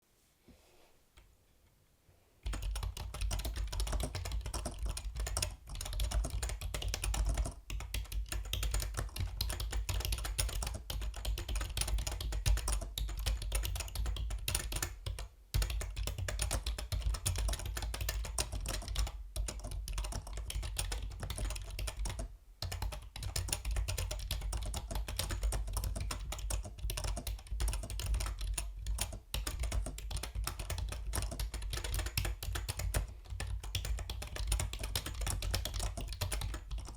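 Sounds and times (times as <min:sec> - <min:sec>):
mechanical keyboard typing: 0:02.4 - 0:36.9.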